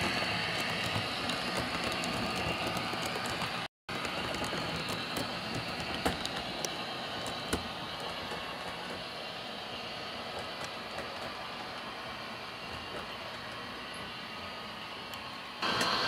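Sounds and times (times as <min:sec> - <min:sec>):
wheels clicking over rail joints: 0:00.0 - 0:15.9
model train rolling and motor noise: 0:00.0 - 0:16.0.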